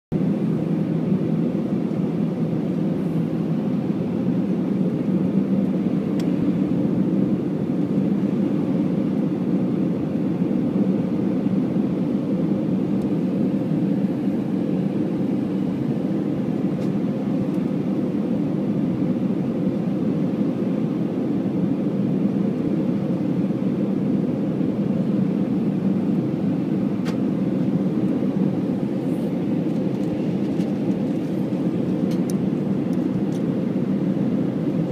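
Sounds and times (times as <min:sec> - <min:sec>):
airplane cabin roar: 0:00.1 - 0:34.9.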